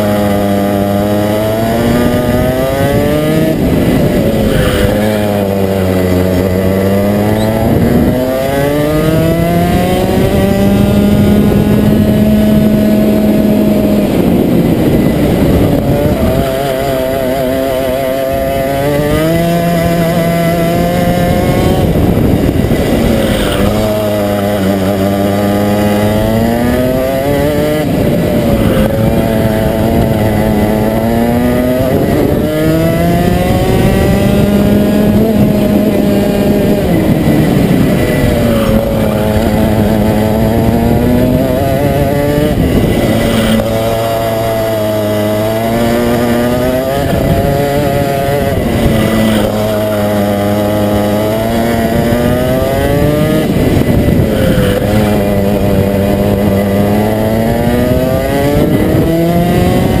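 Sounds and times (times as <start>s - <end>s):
kart engine revving: 0.0s - 60.0s.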